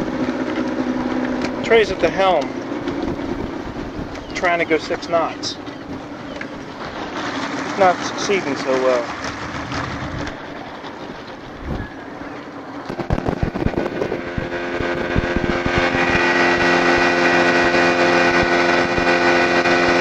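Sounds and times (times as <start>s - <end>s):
outboard motor droning: 0.0s - 20.0s
water rushing along hull: 0.0s - 20.0s.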